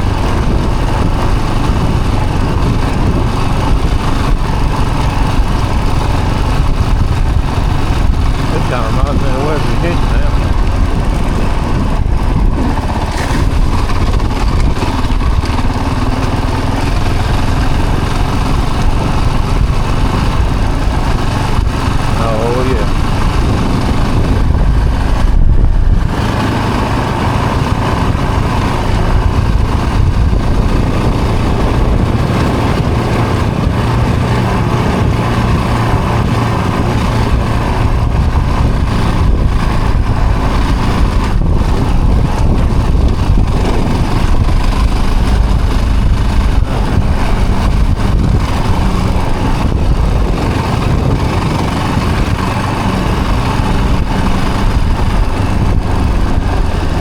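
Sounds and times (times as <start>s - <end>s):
off-road vehicle engine running: 0.0s - 57.0s.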